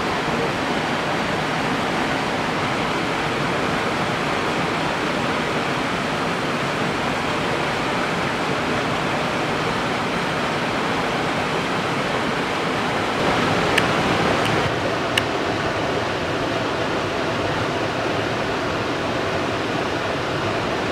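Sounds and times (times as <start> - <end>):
river water rushing over rocks: 0.0 - 20.9.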